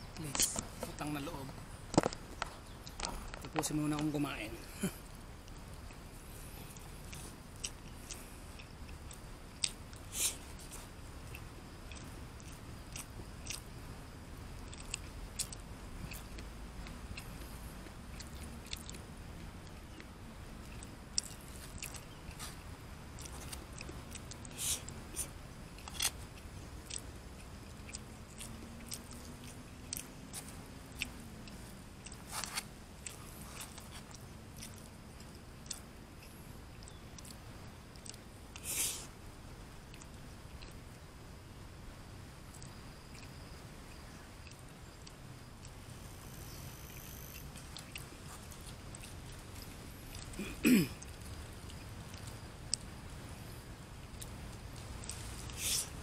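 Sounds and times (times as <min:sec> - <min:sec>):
man chewing food: 0:00.1 - 0:41.2, 0:42.4 - 0:56.0.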